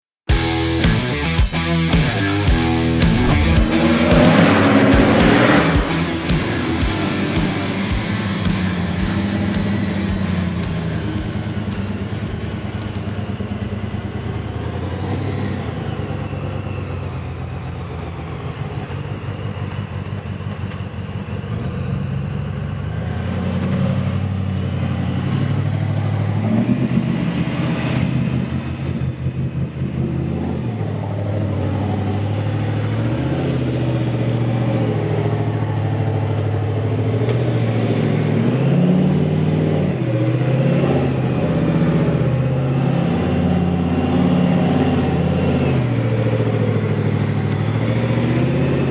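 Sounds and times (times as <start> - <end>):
engine revving: 0.3 - 48.9.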